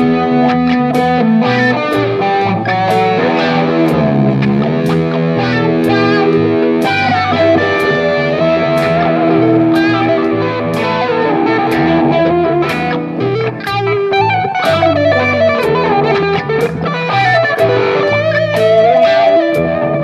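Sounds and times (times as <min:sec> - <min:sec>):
bass notes: 0:00.0 - 0:20.0
drums: 0:00.0 - 0:20.0
electric guitar lead melody: 0:00.0 - 0:20.0.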